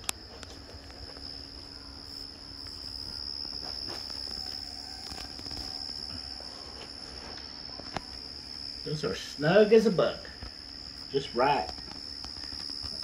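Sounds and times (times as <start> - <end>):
faint rustles and ticks: 0.0 - 8.7, 10.2 - 13.0
low room hum: 0.0 - 13.0.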